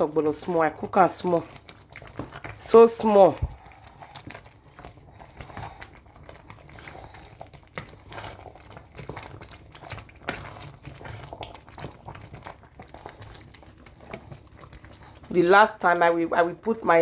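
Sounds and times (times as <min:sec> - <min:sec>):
wooden spatula scraping metal pot: 0:00.0 - 0:15.4.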